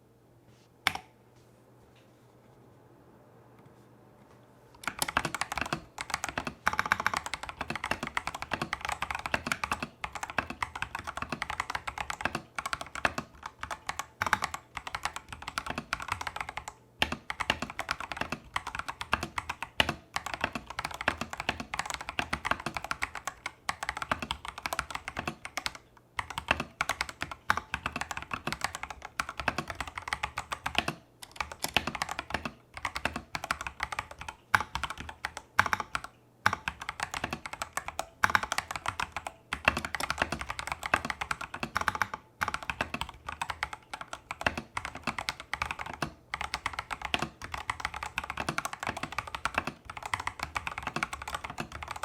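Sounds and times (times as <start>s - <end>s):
fast mechanical keyboard typing: 4.8s - 52.0s.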